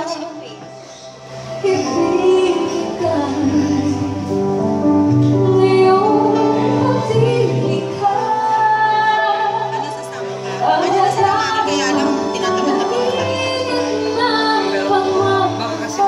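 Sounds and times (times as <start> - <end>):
electric keyboard: 0.0 - 16.0
woman singing into a microphone: 0.0 - 16.0.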